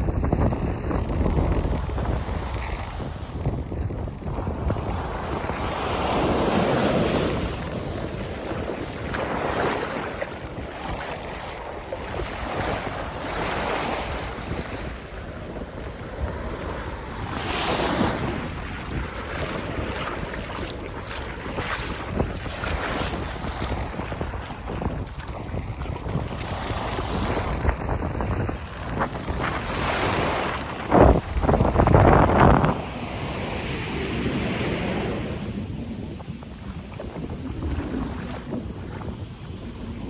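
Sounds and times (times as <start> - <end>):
surf breaking on beach: 0.0 - 40.0
wind rumbling on microphone: 0.0 - 40.0.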